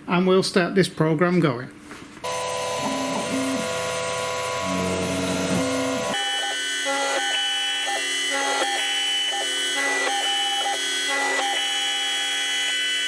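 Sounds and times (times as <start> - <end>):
milling machine motors whining: 2.3 - 13.0.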